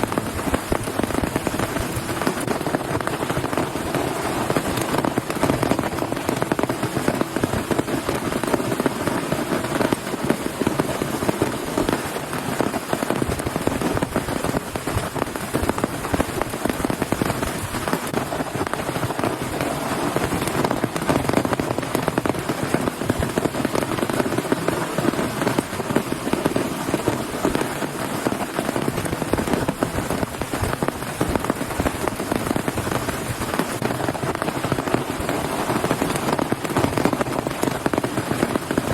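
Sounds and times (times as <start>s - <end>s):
heavy rain drumming: 0.0s - 38.9s.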